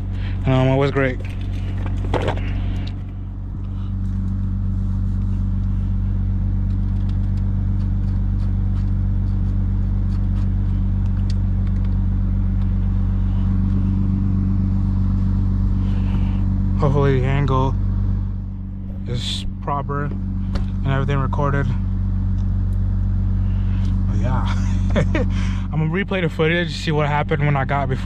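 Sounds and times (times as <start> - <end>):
car engine droning: 0.0 - 28.0
road noise: 0.0 - 28.0.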